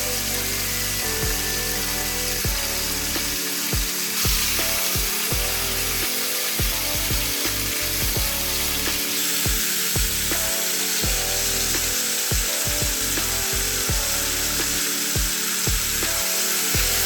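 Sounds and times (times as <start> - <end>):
meat searing in hot oil: 0.0 - 17.0
music with bass and kick drum: 0.0 - 17.0.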